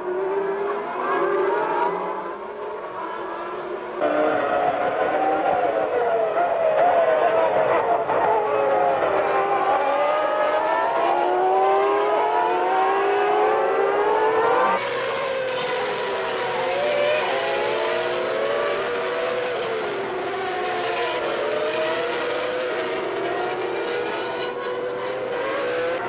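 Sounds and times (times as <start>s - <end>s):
racing car engines at high revs: 0.0s - 26.0s.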